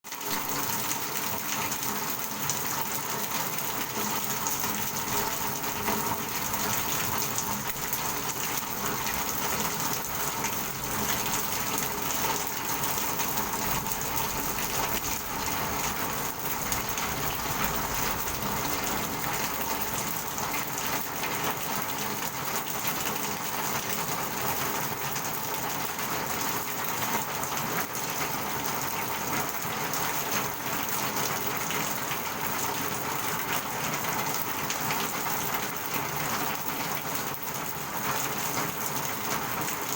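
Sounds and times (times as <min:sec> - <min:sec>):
steady rain on hard surface: 0:00.0 - 0:39.9.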